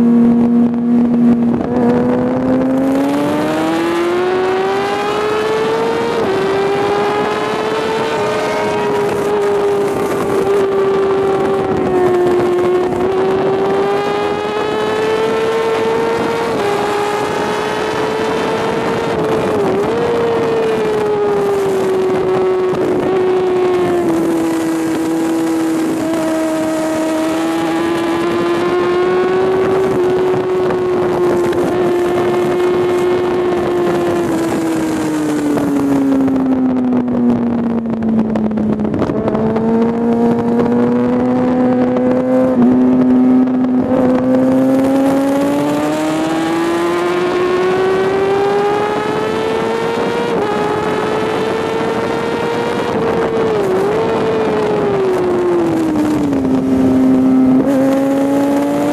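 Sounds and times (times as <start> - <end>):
rushing wind noise: 0.0 - 58.9
sport bike engine at high revs: 0.0 - 58.9.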